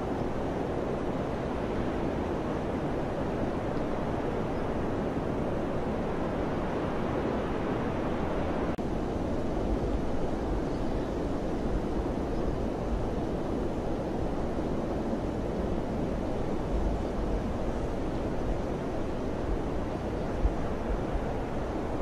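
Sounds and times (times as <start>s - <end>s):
wind rushing with low rumble: 0.0s - 22.0s.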